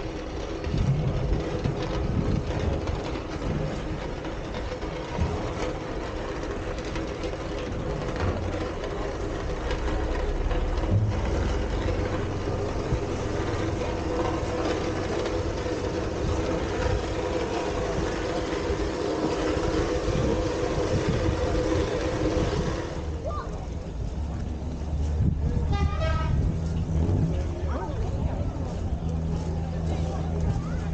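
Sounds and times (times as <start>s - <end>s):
crane engine running under load: 0.0s - 30.9s.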